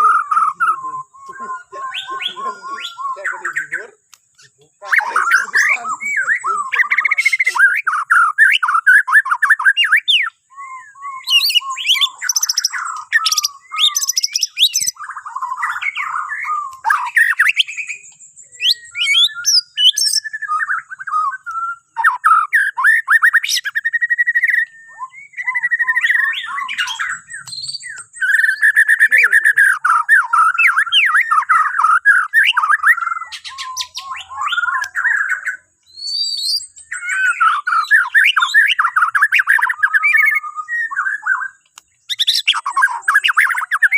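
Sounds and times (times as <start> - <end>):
bird singing whistled song: 0.0 - 43.9.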